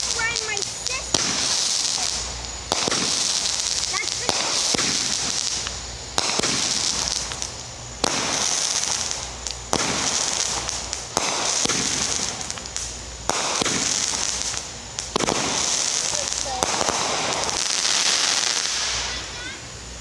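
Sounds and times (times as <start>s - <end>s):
firework bangs: 0.0s - 20.0s
firework crackle: 0.0s - 20.0s.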